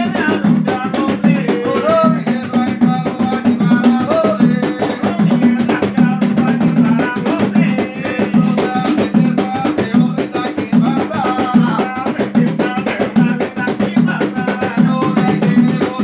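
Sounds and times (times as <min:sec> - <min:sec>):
hand drums playing rhythm: 0:00.0 - 0:16.0
men singing: 0:00.0 - 0:16.0.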